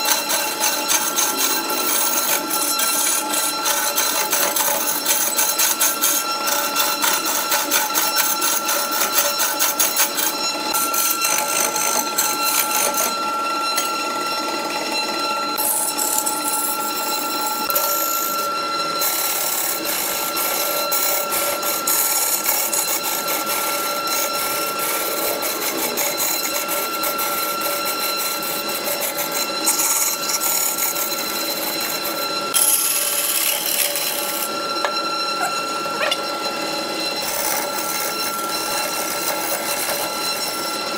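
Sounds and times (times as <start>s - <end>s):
tool hissing cutting shavings: 0.0s - 40.9s
turning tool chatter: 0.0s - 40.9s
wood lathe whine: 0.0s - 40.9s.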